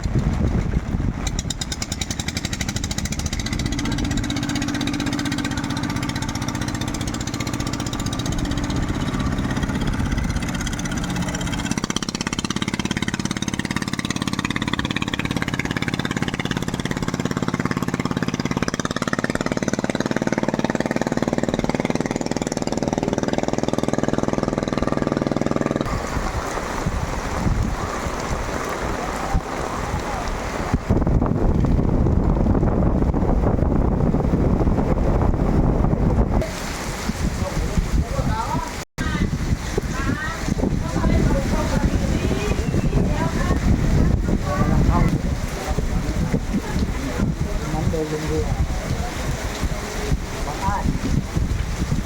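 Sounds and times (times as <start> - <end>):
boat engine knocking: 0.0 - 36.4, 38.3 - 52.0.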